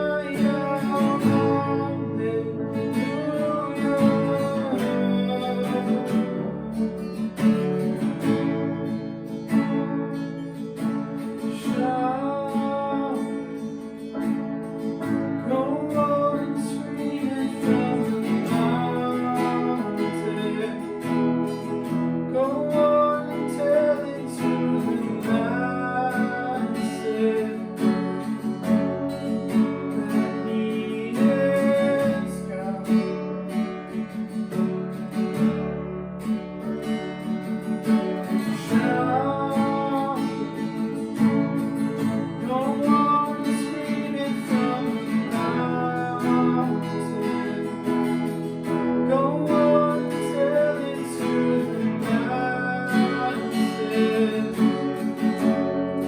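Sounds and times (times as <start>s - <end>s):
person singing: 0.0s - 7.2s, 11.1s - 14.4s, 15.0s - 33.7s, 38.0s - 56.0s
acoustic guitar strumming: 0.0s - 56.0s.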